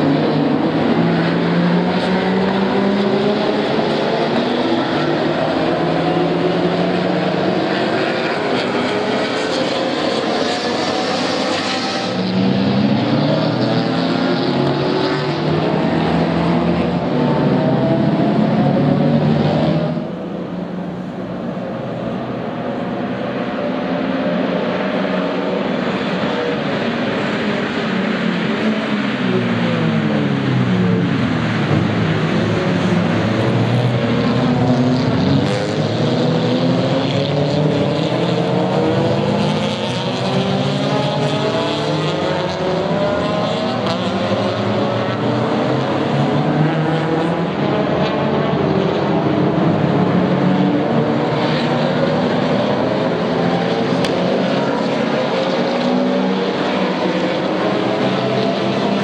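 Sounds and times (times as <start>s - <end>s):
race cars passing at speed: 0.0s - 59.0s.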